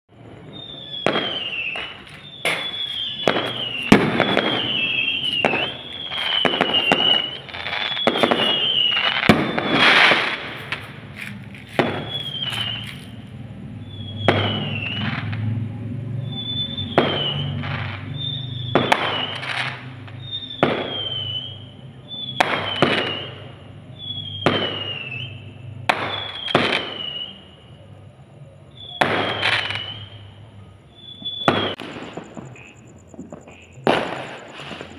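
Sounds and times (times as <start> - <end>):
fireworks bangs: 0.1 - 27.6, 28.7 - 34.9
falling firework whistle: 0.1 - 27.8, 28.7 - 34.9.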